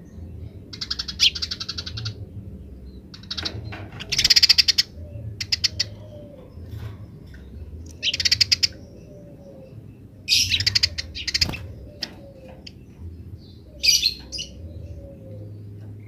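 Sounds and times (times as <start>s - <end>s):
sparrows chattering: 0.0s - 16.0s.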